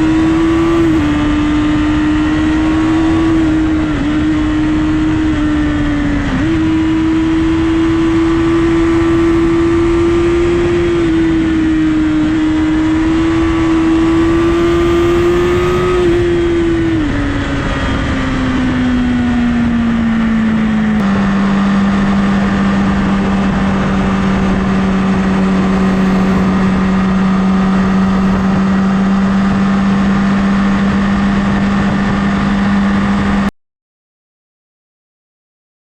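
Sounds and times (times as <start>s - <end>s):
motorcycle engine running: 0.0s - 33.5s.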